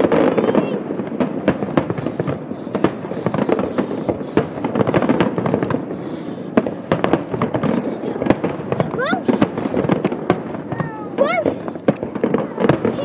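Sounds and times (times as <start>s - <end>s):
firework shells bursting: 0.0s - 13.0s.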